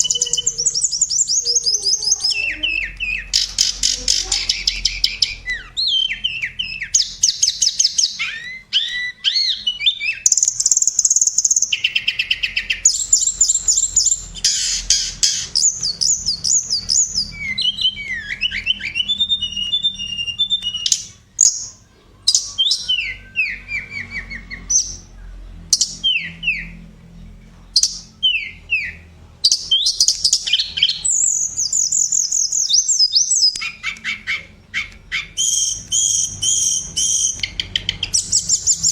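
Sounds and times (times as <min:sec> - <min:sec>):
flycatcher singing: 0:00.0 - 0:38.9.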